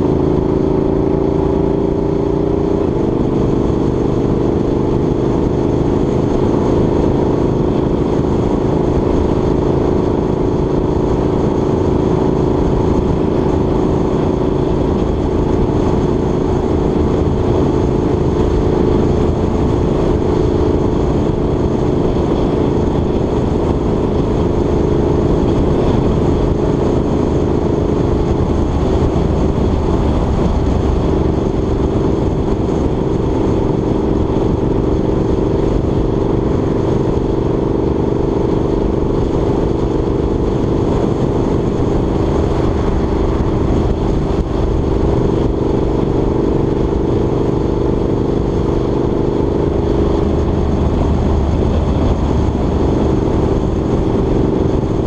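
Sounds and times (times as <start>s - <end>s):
engine drone: 0.0s - 55.0s
road and wind noise: 0.0s - 55.0s.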